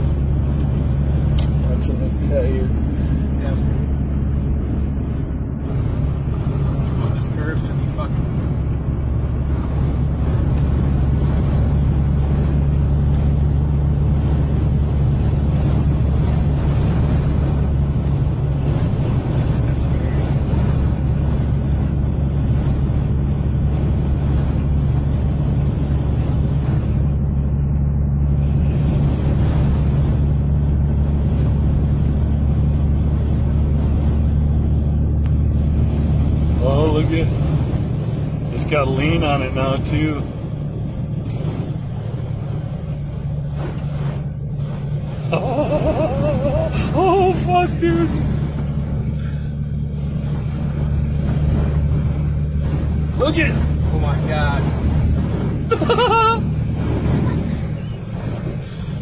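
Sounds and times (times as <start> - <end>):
engine and tyre drone: 0.0 - 59.0
road rumble: 0.0 - 59.0.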